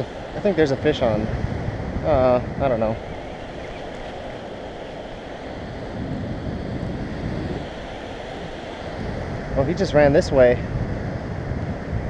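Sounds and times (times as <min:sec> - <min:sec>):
ocean surf washing ashore: 0:00.0 - 0:12.0
wind on the microphone: 0:00.0 - 0:12.0.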